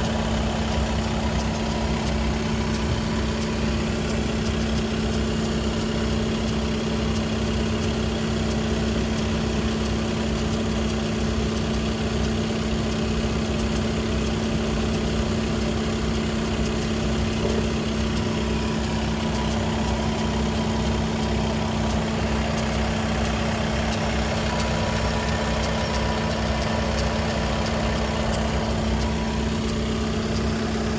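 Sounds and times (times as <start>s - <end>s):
diesel engine idling: 0.0s - 30.9s
steady gearbox hum: 0.0s - 30.9s.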